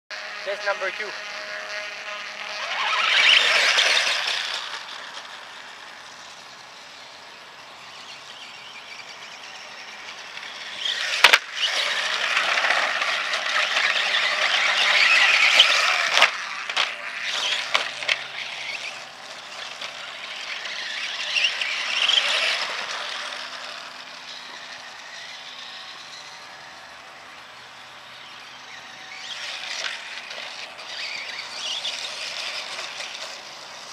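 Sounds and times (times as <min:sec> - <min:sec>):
electric motor whining: 0:00.1 - 0:33.9.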